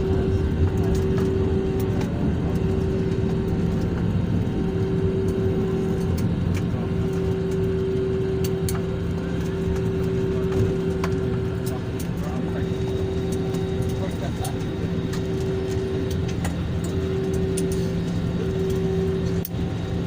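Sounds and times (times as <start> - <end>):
airliner engine drone: 0.0 - 20.0
constant hums: 0.0 - 20.0.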